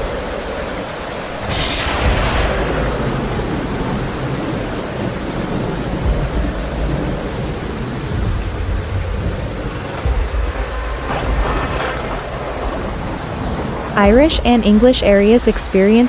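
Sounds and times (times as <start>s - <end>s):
heavy rain hissing: 0.0s - 16.0s
low thunder rumble: 0.0s - 16.0s.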